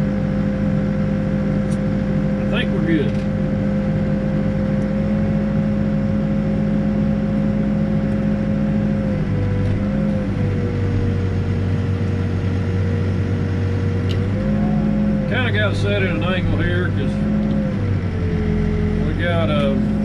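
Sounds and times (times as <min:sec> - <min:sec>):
diesel engine running: 0:00.0 - 0:20.0
steady whine: 0:00.0 - 0:20.0.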